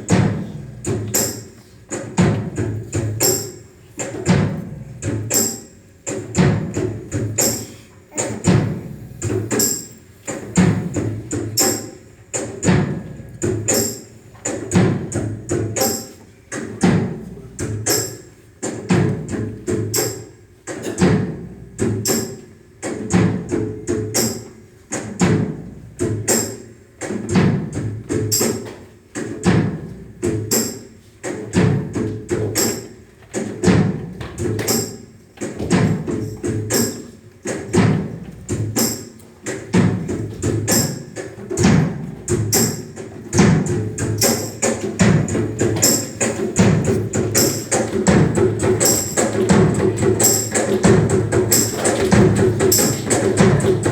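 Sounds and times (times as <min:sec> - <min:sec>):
music with percussive beat: 0:00.0 - 0:53.9.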